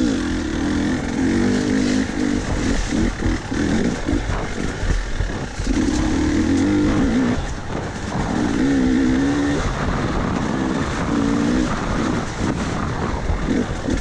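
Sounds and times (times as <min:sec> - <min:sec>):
dirt bike engine revving: 0:00.0 - 0:14.0
wind rush: 0:00.0 - 0:14.0.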